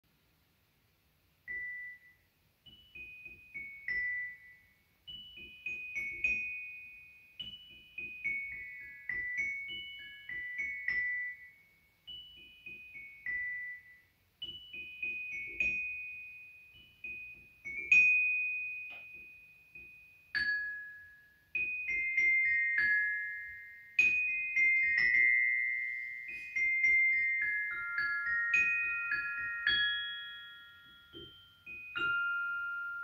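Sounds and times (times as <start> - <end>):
glockenspiel melody: 1.4 - 33.0.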